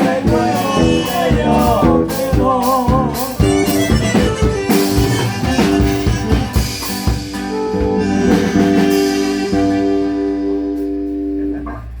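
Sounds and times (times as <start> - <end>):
live band music with drums: 0.0 - 12.0.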